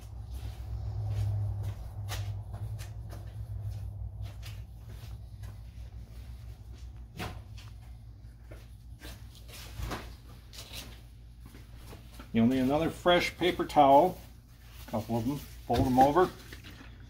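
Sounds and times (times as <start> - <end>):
steady low hum: 0.0 - 15.7.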